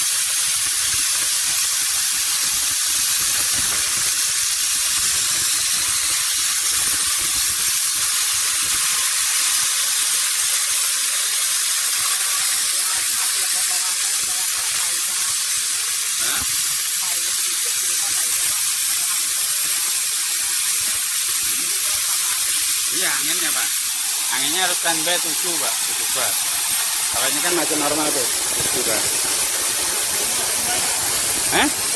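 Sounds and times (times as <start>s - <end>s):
plasma torch hissing: 0.0s - 31.9s.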